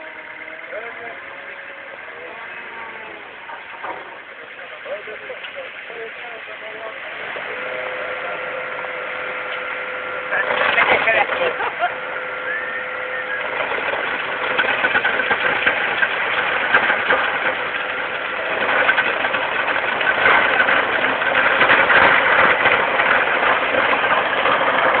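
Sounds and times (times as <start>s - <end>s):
drum grinding asphalt: 0.0s - 25.0s
loader engine running under load: 0.0s - 25.0s.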